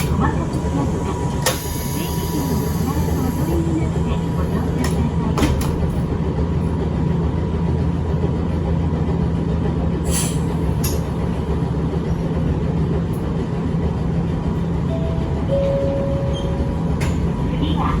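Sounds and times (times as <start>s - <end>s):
train motors and wheels droning: 0.0s - 18.0s.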